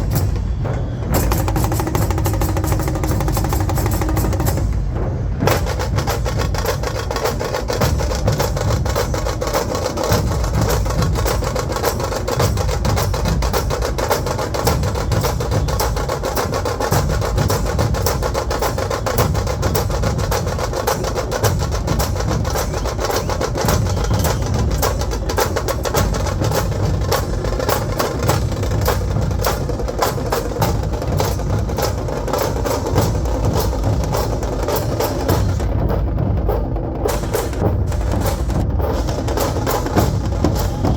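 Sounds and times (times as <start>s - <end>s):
low barrel drums beating: 0.0s - 40.9s
rapid snare-like drum roll: 0.0s - 40.9s.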